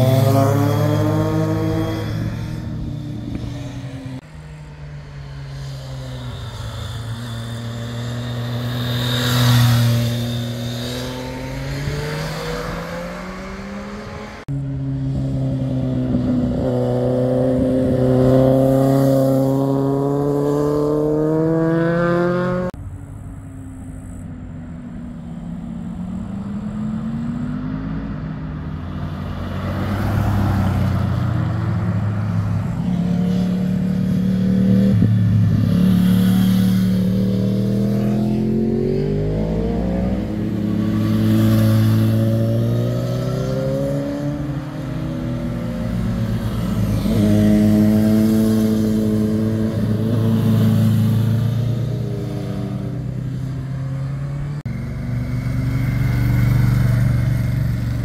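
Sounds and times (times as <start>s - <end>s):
car engine: 0.0s - 58.0s
motorcycle engines passing: 0.0s - 58.0s.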